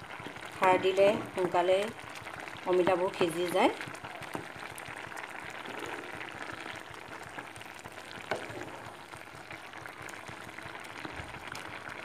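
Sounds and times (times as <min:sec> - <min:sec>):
food bubbling in a pan: 0:00.0 - 0:12.0
wooden spatula stirring: 0:00.1 - 0:12.0.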